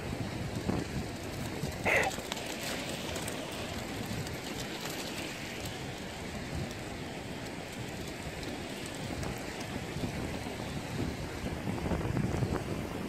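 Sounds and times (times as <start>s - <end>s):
surf washing onto beach: 0.0s - 13.0s
wind gusting on microphone: 0.0s - 13.0s.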